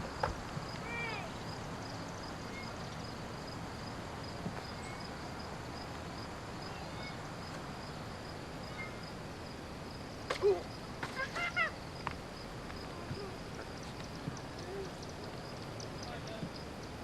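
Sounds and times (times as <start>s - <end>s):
insect chirping: 0.0s - 17.0s
outdoor background hiss: 0.0s - 17.0s.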